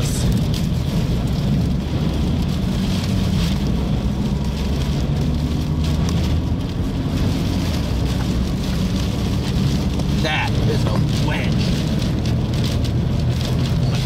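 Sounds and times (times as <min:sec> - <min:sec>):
rain and wind on a car: 0:00.0 - 0:14.0.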